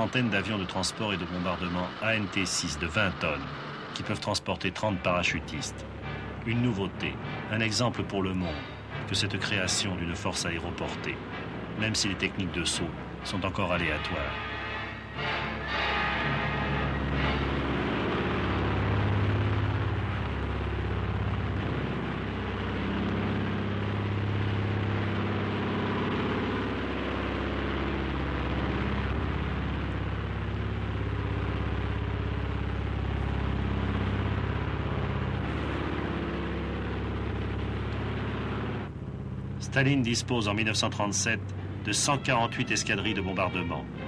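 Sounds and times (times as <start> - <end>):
propeller aircraft engines droning: 0.0 - 44.0.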